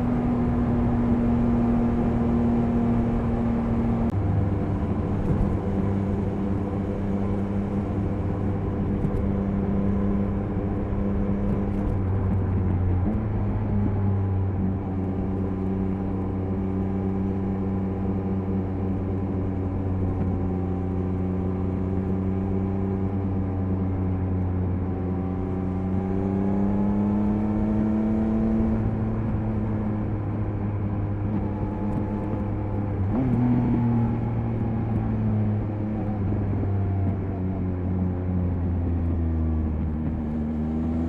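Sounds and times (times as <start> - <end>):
motorcycle engine cruising: 0.0 - 41.0.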